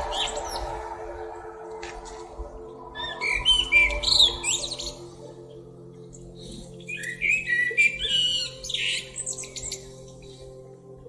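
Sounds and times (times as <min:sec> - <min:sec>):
blackbird singing: 0:00.0 - 0:10.7.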